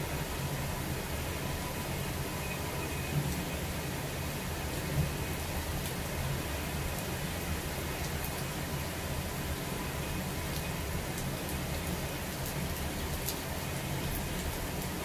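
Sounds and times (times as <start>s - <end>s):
steady rain hiss: 0.0s - 15.0s
raindrops ticking nearby: 0.1s - 15.0s.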